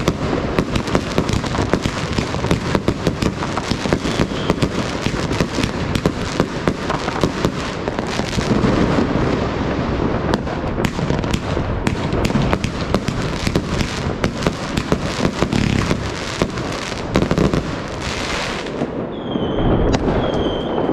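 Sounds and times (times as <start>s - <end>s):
fireworks crackling and popping: 0.0s - 20.9s.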